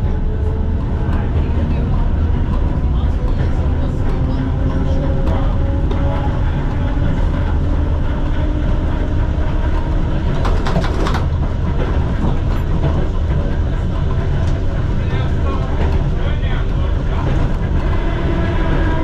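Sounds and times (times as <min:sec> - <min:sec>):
tram rumbling along track: 0:00.0 - 0:19.0.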